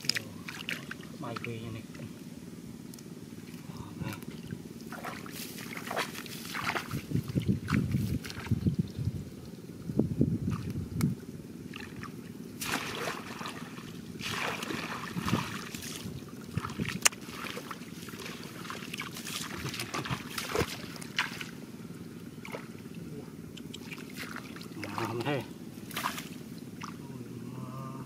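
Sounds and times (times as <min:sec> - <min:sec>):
muddy water splashing: 0:00.0 - 0:02.0, 0:03.4 - 0:09.0, 0:11.6 - 0:27.3.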